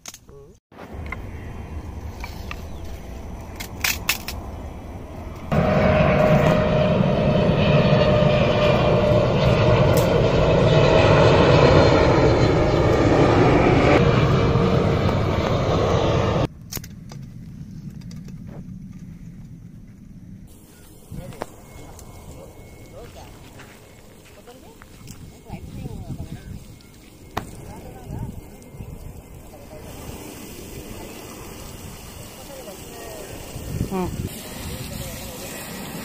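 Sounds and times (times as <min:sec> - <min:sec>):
quiet steady rumble: 0:00.3 - 0:11.9, 0:13.9 - 0:32.1
jet airliner passing overhead: 0:00.8 - 0:16.5, 0:17.6 - 0:36.0.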